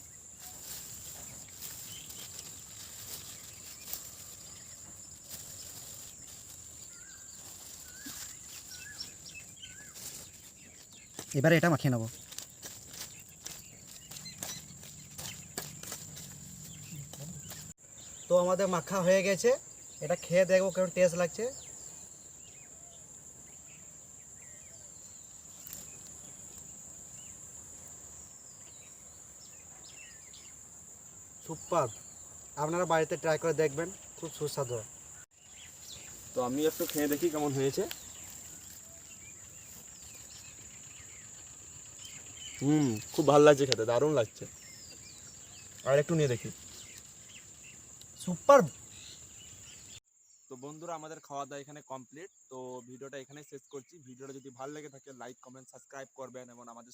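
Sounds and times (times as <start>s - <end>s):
bird chirps: 0.0s - 30.7s, 31.3s - 50.9s
insects droning: 0.0s - 56.9s.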